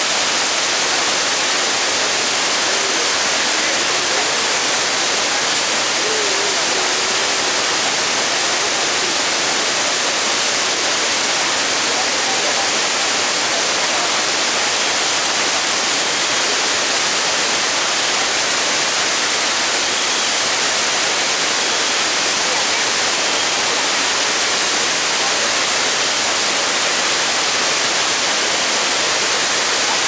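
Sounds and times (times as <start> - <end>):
loud rush of water from dam: 0.0 - 30.0.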